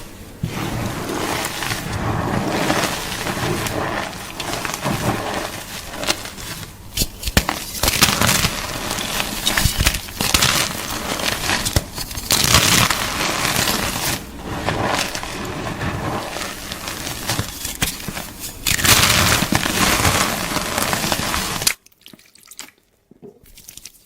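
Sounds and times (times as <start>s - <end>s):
chalk crunching: 0.0s - 21.8s.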